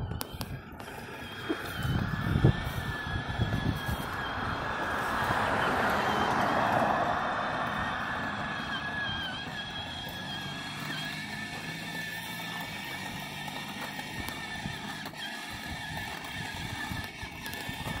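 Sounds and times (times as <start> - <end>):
toy motorcycle motor whine: 0.0 - 18.0.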